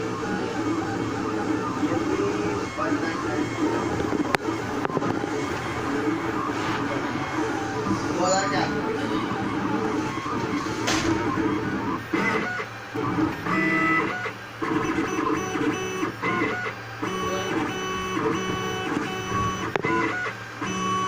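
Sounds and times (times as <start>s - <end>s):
stepper motors whining: 0.0s - 21.0s.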